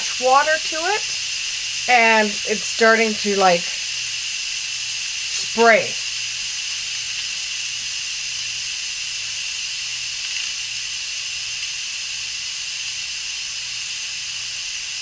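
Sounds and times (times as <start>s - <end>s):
pressure valve hissing steam: 0.0s - 15.0s
water spitting from valve: 0.0s - 15.0s.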